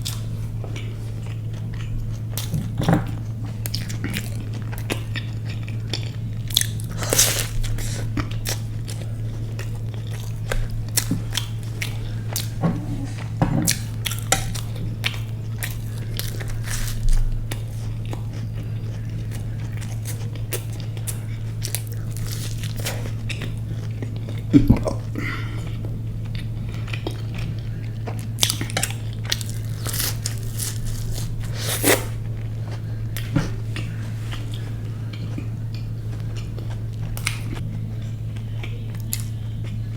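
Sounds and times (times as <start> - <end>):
crunchy chewing: 0.0 - 39.9
low electrical hum: 0.0 - 39.9.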